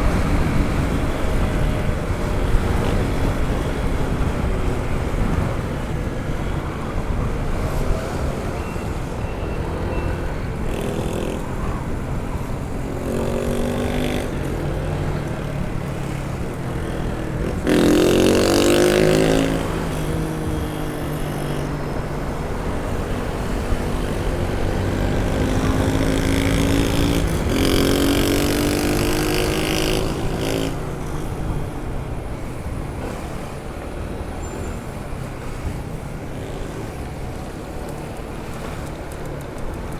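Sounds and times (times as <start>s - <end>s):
scooter engine revving: 0.0s - 39.9s
wind rushing on microphone: 0.0s - 39.9s.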